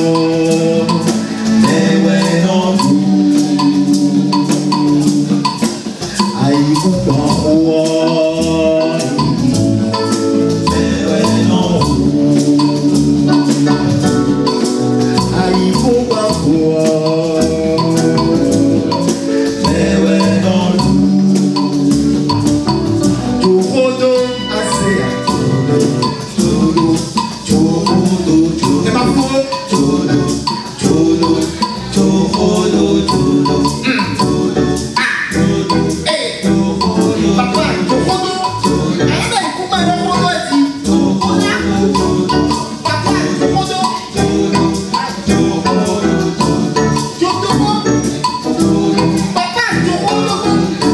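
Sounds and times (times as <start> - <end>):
fast dense percussion: 0.0 - 50.9
pitched melodic parts: 0.0 - 50.9.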